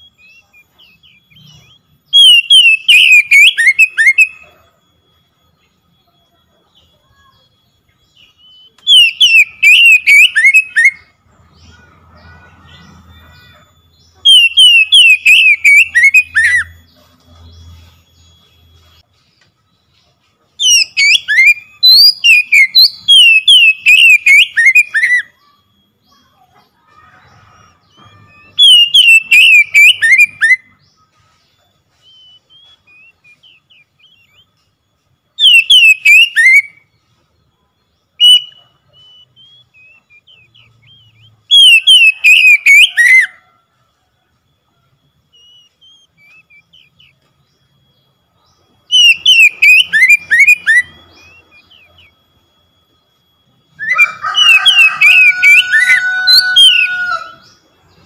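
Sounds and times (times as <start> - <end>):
bird singing whistled notes: 0.0 - 4.6, 5.2 - 44.2, 45.0 - 58.0.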